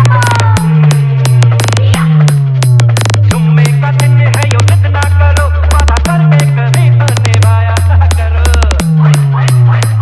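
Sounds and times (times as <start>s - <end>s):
sharp percussion hits: 0.0s - 10.0s.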